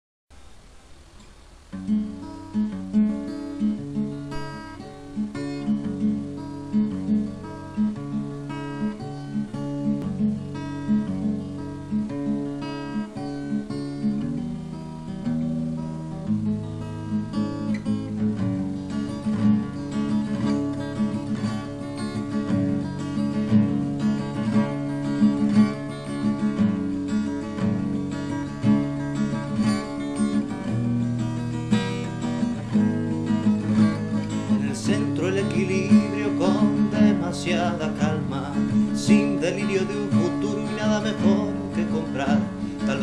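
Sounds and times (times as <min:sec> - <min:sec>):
acoustic guitar rhythmic pattern: 0:00.3 - 0:43.0.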